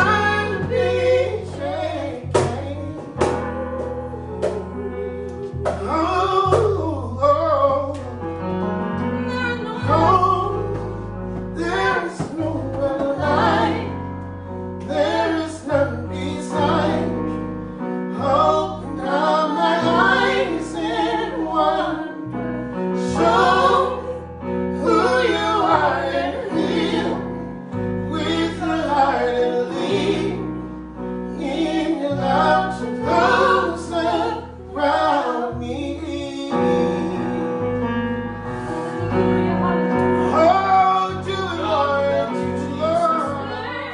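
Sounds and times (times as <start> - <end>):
bass and keyboard chords: 0.0 - 43.9
gospel singing: 0.0 - 43.9.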